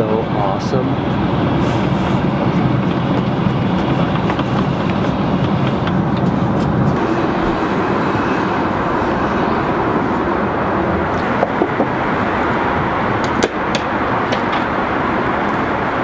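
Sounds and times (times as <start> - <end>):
airliner cabin noise: 0.0 - 16.0.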